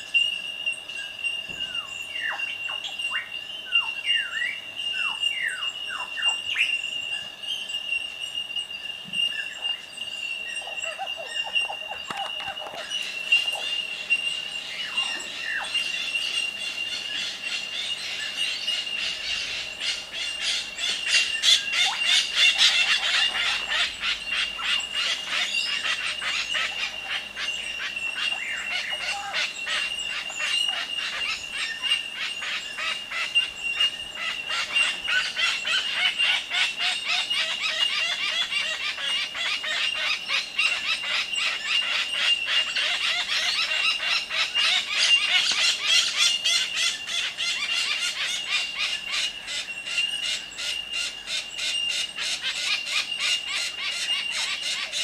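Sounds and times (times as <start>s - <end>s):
steady high-pitched whine: 0.0s - 55.0s
bird calls and squawks: 10.5s - 55.0s.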